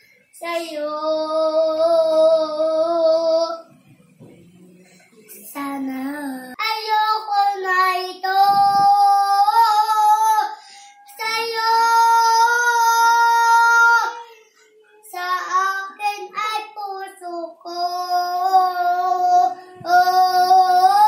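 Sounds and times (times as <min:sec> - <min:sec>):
boy singing: 0:00.4 - 0:03.8, 0:05.3 - 0:21.0.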